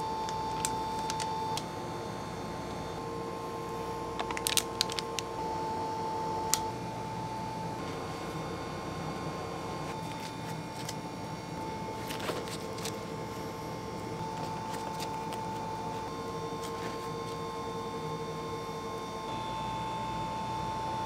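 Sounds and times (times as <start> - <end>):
kitchen equipment electrical hum: 0.0 - 21.0.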